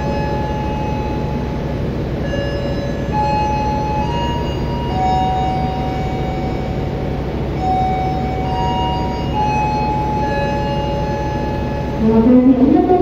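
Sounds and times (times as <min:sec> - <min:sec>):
low rumble of trains: 0:00.0 - 0:13.0
slow tune of long notes: 0:00.0 - 0:13.0.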